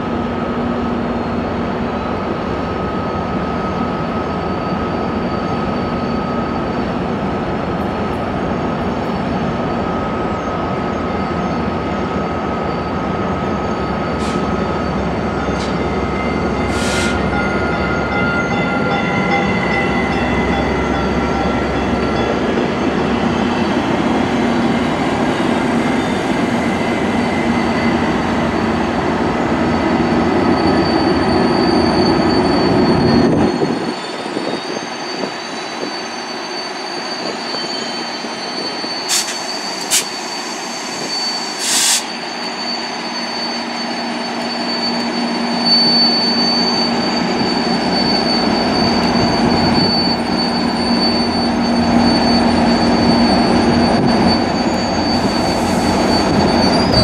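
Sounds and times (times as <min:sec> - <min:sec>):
train low rumble: 0:00.0 - 0:35.9, 0:43.4 - 0:57.0
train wheels squealing on rails: 0:00.0 - 0:57.0.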